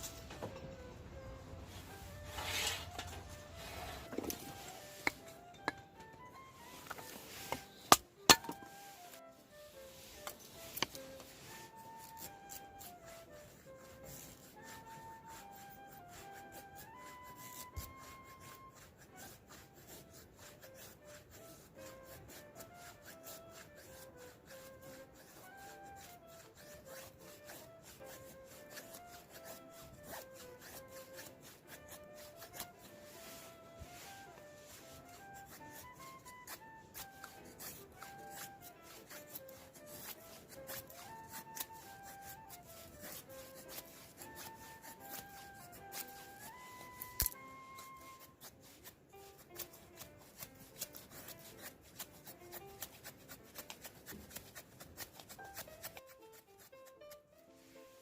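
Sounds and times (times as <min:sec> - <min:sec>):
soft background music: 0:00.0 - 0:58.0
knife shaving wood: 0:01.2 - 0:57.9.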